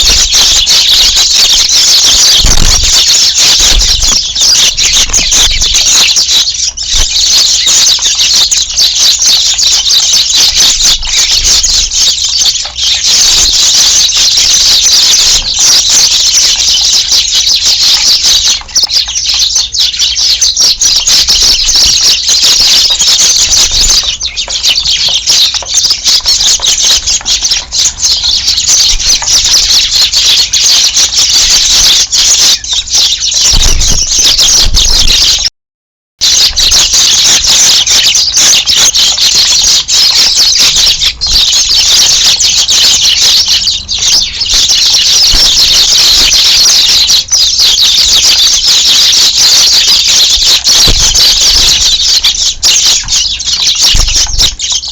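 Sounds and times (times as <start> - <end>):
flock of sparrows chirping: 0.0 - 35.5, 36.2 - 54.9.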